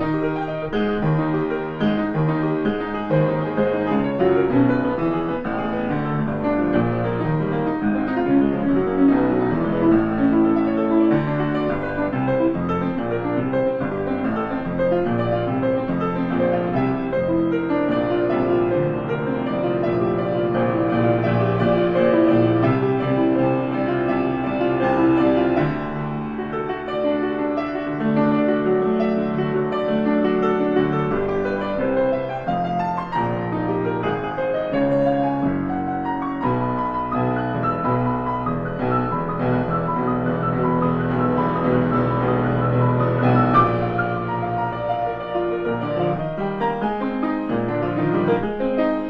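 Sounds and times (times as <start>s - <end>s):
grand piano improvisation: 0.0s - 49.0s.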